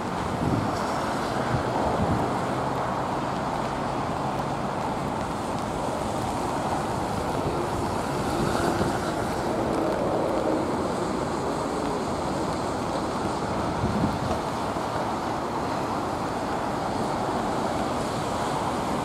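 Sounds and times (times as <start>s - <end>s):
wind on microphone: 0.0s - 2.7s, 5.2s - 19.0s
jet airliner engines rushing: 0.0s - 19.0s.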